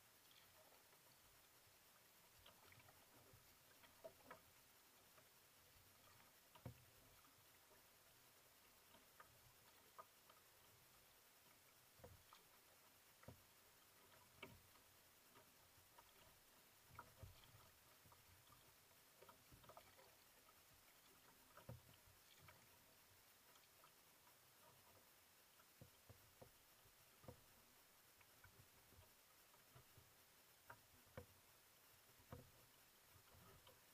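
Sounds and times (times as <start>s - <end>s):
paddle splashing: 0.0s - 33.9s
water lapping against hull: 0.0s - 33.9s.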